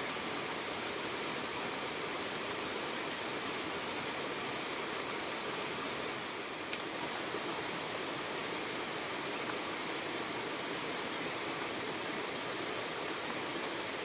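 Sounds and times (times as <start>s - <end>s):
fast-flowing water rushing: 0.0s - 14.0s.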